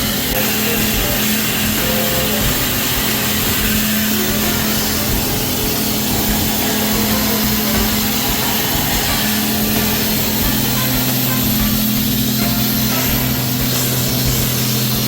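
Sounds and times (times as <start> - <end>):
dry-ice blaster hissing: 0.0 - 15.0
low hum: 0.0 - 15.0.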